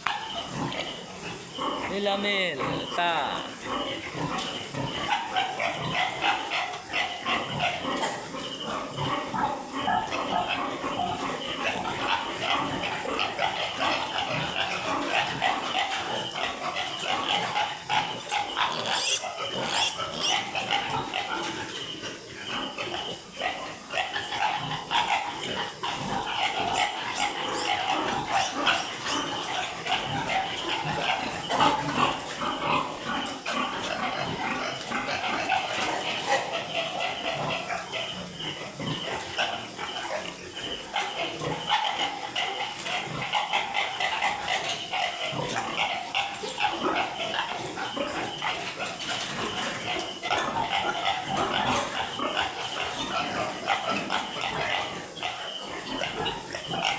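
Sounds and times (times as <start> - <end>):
piglets squealing and grunting: 0.0 - 56.9.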